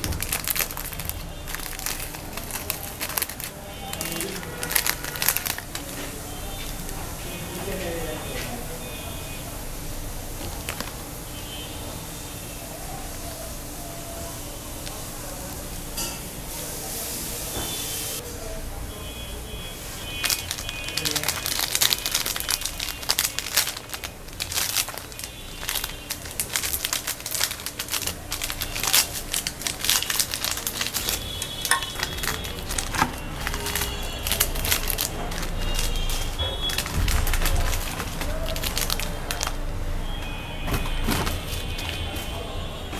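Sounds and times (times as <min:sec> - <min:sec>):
crunching and crackling: 0:00.0 - 0:12.2, 0:12.8 - 0:16.3, 0:19.1 - 0:42.9.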